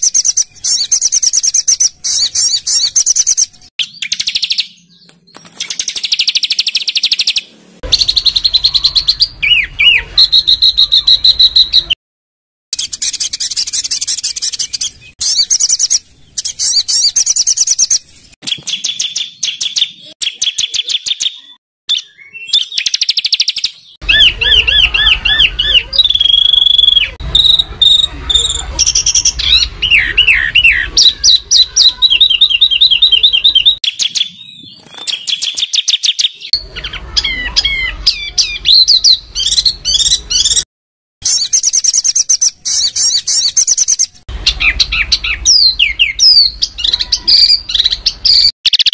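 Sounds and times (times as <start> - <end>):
songbirds trilling: 0.0 - 12.0, 12.8 - 40.6, 41.2 - 48.9.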